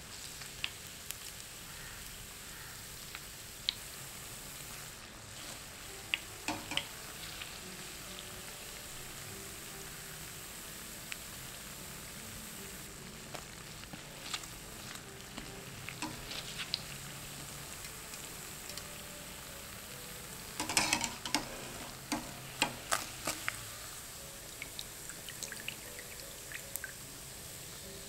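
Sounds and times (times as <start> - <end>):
deep-frying sizzle with crackles: 0.0 - 28.0.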